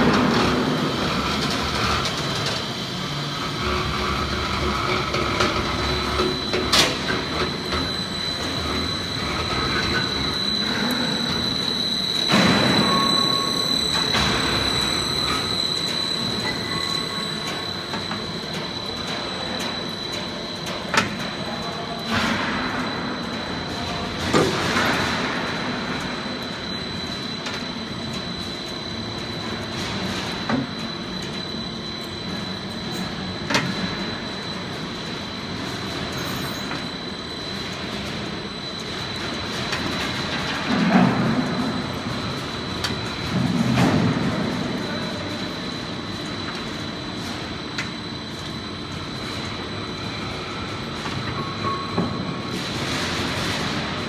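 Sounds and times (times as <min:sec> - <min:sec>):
constant high whine: 0:00.0 - 0:54.0
machine running noise: 0:00.0 - 0:54.0.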